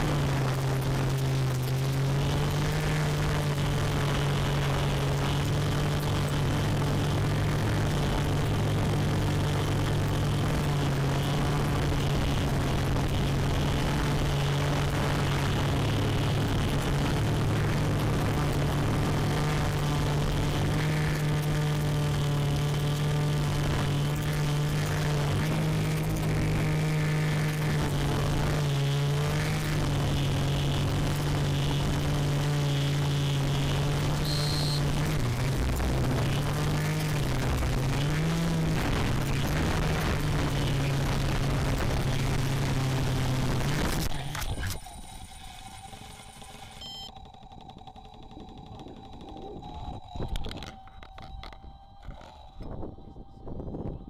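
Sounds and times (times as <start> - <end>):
drone motors buzzing: 0.0 - 53.0.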